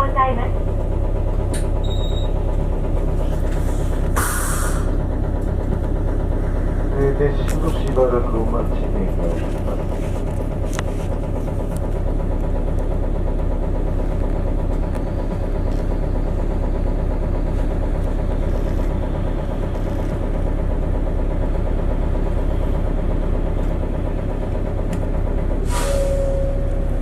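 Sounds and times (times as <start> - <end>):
bus engine idling: 0.0 - 27.0.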